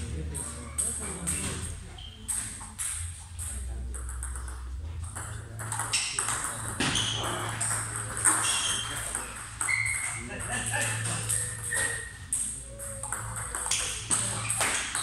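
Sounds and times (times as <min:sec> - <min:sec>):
distant table tennis clicks: 0:00.3 - 0:15.0.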